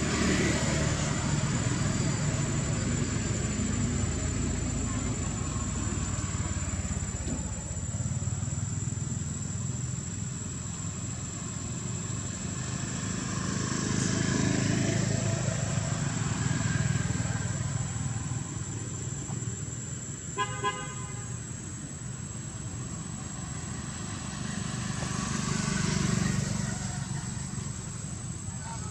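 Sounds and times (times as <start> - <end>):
vehicle engine passing: 0.0 - 20.1, 21.8 - 28.9.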